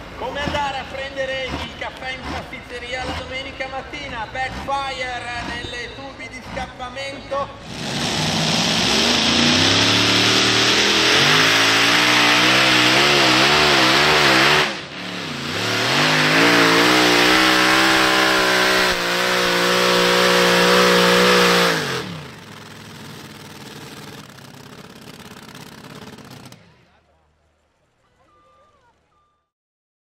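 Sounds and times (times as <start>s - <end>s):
tractor engines at full throttle: 0.0s - 28.1s.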